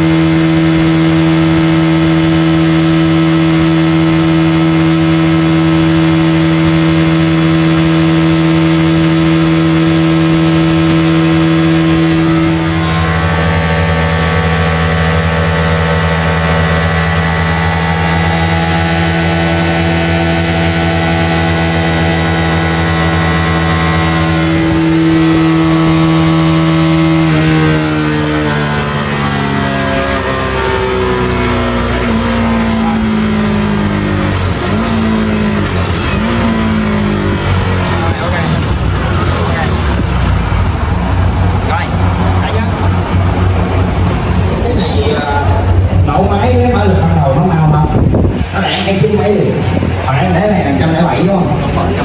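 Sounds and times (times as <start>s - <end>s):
scooter engine at high revs: 0.0s - 52.0s.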